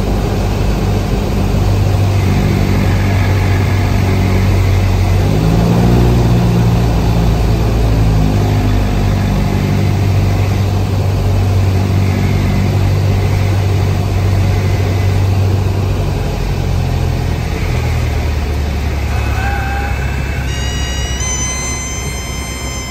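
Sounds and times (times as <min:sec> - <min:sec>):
propeller aircraft engine humming: 0:00.0 - 0:22.9.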